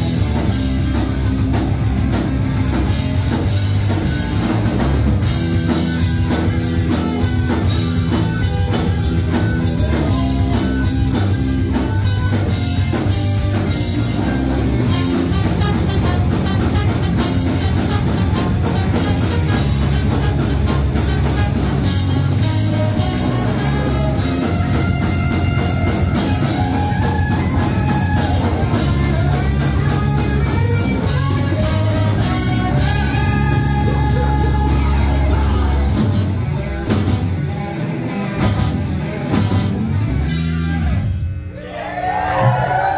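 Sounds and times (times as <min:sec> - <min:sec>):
melodic guitar line: 0:00.0 - 0:41.5
instrumental rock band playing: 0:00.0 - 0:42.9.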